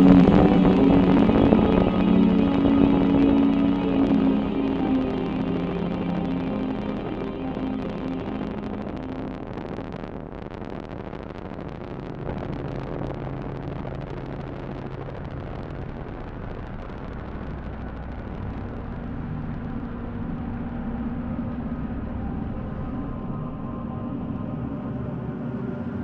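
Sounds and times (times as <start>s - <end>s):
dark ambient drone music: 0.0s - 26.0s.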